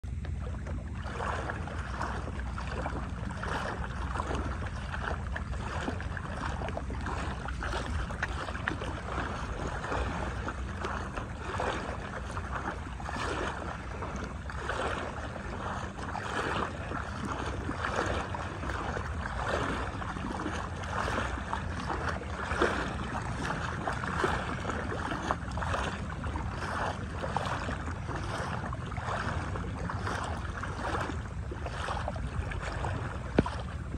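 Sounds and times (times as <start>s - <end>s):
seawater sloshing and lapping: 0.0s - 33.9s
wind rumble on microphone: 0.0s - 33.9s.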